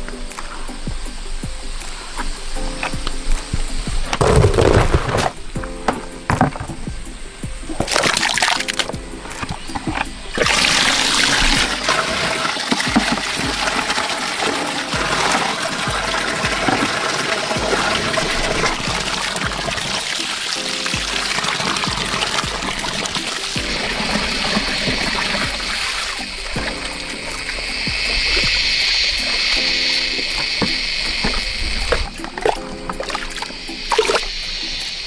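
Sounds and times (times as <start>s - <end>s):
background music: 0.0s - 35.0s
water running and splashing: 0.0s - 35.0s.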